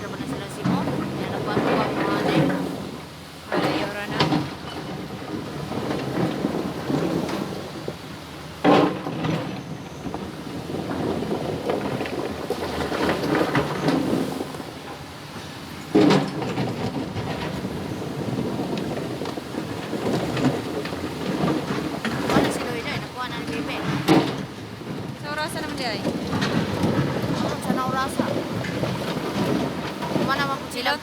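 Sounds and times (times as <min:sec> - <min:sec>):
excavator working: 0:00.0 - 0:31.0
rushing water: 0:00.0 - 0:31.0.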